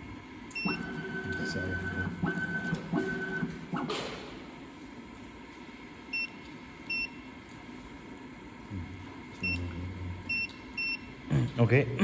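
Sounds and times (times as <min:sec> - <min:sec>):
low machine background: 0:00.0 - 0:12.0.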